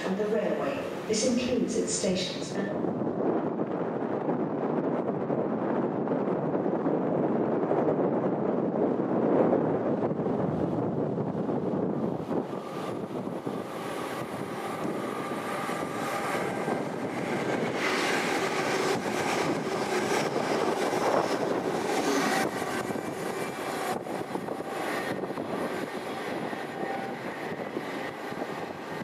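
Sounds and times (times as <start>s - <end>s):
train running through station: 0.0s - 29.0s.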